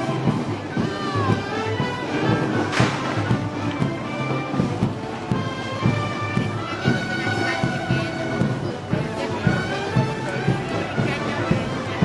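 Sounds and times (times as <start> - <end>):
band wind and brass notes: 0.0 - 12.0
steady drum beat: 0.0 - 12.0.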